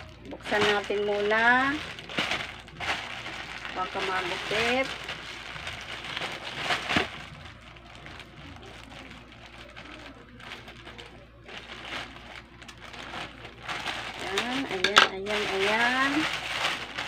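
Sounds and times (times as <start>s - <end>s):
plastic crinkling: 0.0s - 17.0s
plastic rustling: 0.0s - 17.0s.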